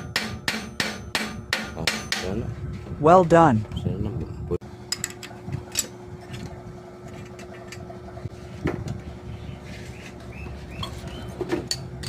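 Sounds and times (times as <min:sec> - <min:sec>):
workshop machinery humming: 0:00.0 - 0:12.0.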